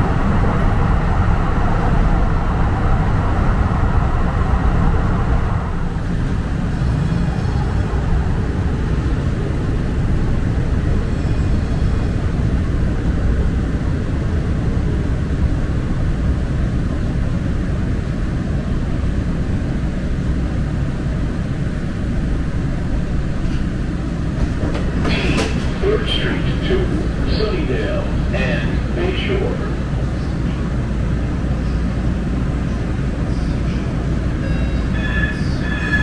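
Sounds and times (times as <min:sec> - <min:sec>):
light rail train rumbling on track: 0:00.0 - 0:36.0.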